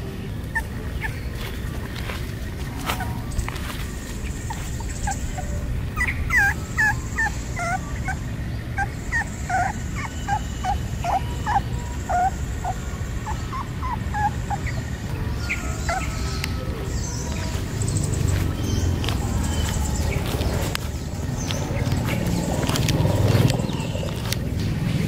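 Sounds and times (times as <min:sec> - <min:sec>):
puppy whimpering: 0:00.0 - 0:24.4.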